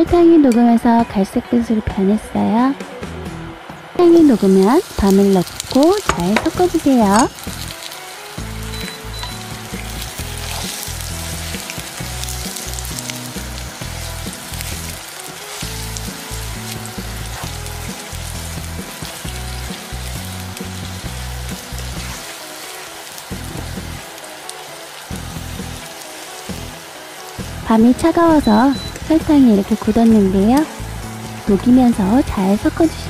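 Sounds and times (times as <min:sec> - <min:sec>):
background music: 0:00.0 - 0:33.0
chestnuts sizzling in a frying pan: 0:04.0 - 0:33.0.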